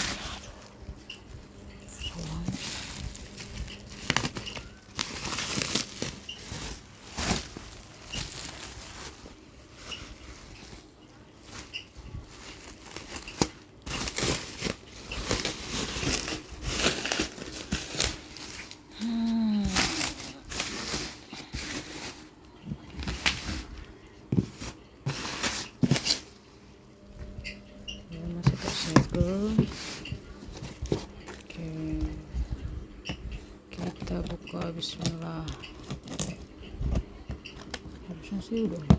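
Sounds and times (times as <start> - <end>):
plastic wrap crinkling: 0.0 - 32.7.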